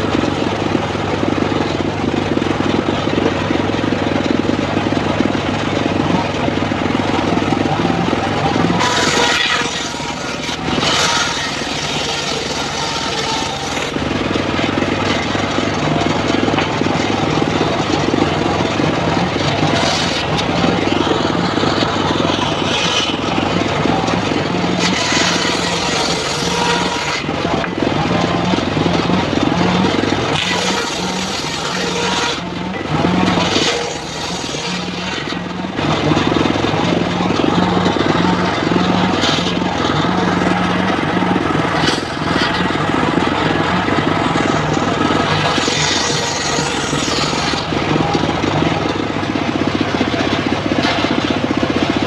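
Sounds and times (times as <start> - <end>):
engine hum: 0.0 - 52.0
saw blade ripping wood: 6.9 - 52.0.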